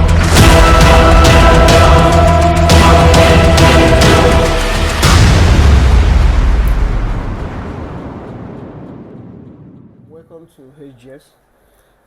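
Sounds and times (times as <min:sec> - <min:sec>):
deep boom hit: 0:00.0 - 0:10.5.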